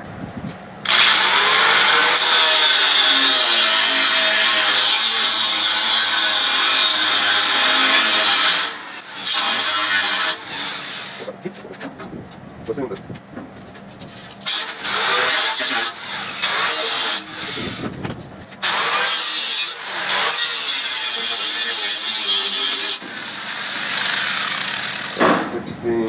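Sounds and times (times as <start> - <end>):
tool working metal: 0.8 - 11.4, 14.4 - 18.0, 18.6 - 25.6.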